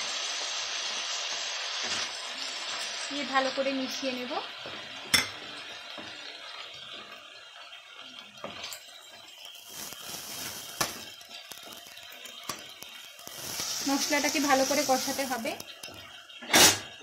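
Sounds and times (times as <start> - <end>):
soft sizzle: 0.0 - 17.0.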